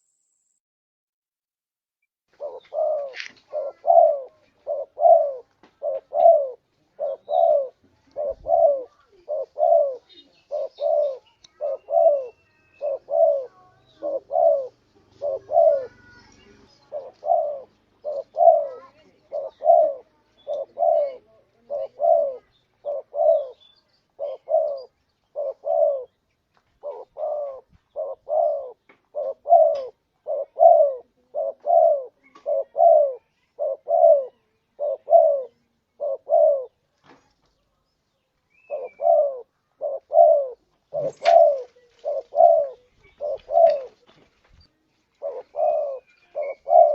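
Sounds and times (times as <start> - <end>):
dove cooing: 2.3 - 26.2, 26.8 - 36.8, 38.6 - 44.2, 45.1 - 46.9.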